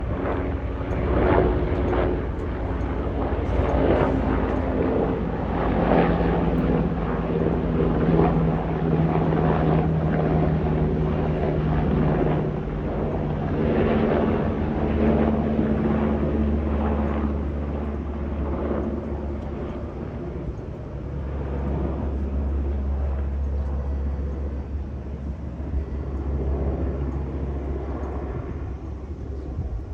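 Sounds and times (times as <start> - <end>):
helicopter rotors and engines: 0.0 - 29.9.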